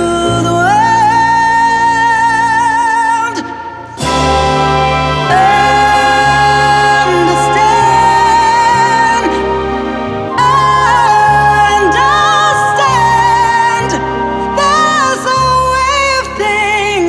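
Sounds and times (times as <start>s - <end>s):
slow tender song: 0.0s - 17.0s.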